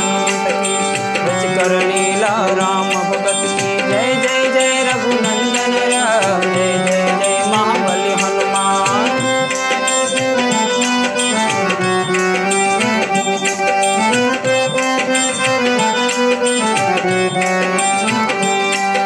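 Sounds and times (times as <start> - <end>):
harmonium melody: 0.0 - 19.0
tabla: 0.0 - 19.0.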